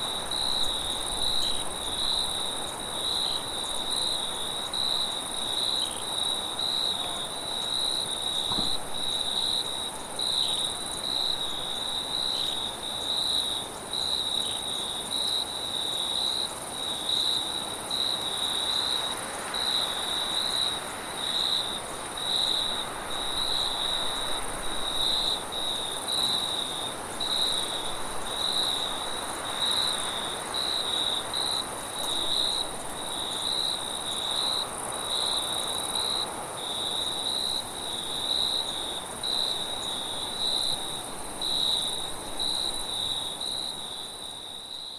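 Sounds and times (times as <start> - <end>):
crickets chirping: 0.0 - 44.9
high insect trill: 0.0 - 44.9.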